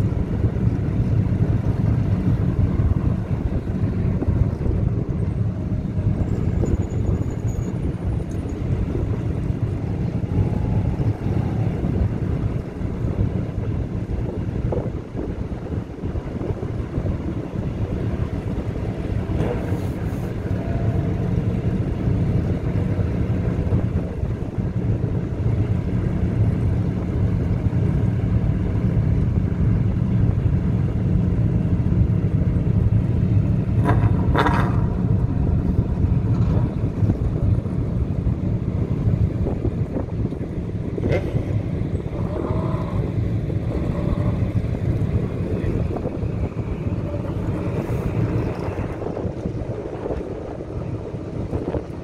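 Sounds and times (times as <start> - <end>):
race car engines idling: 0.0 - 52.0
wind buffeting microphone: 0.0 - 52.0.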